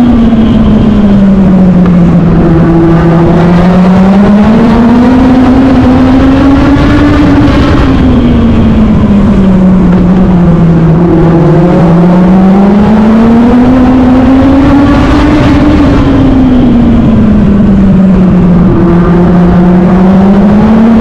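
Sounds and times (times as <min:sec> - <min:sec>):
racing car engine revving: 0:00.0 - 0:21.0
wind rumble on microphone: 0:00.0 - 0:21.0.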